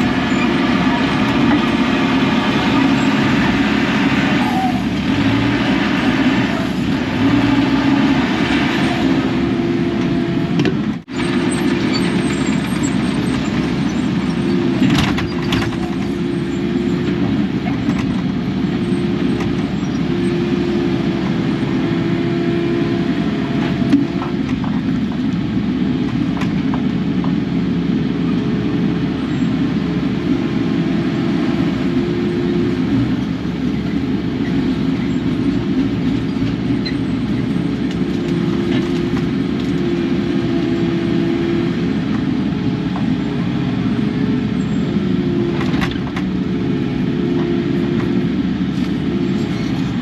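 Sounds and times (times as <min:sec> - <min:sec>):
excavator diesel engine and hydraulics: 0:00.0 - 0:50.0.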